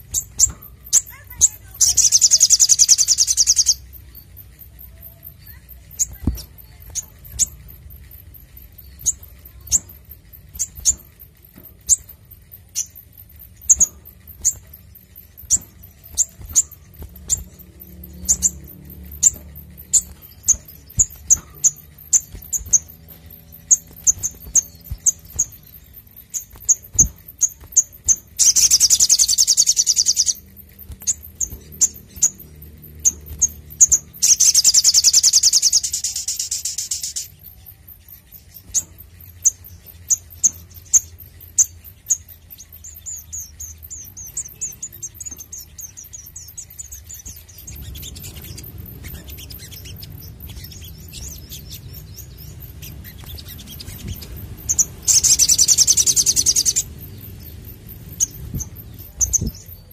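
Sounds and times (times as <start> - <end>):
bird rapid high trill: 0.0 - 59.9
bird sharp high chirps: 0.0 - 59.9.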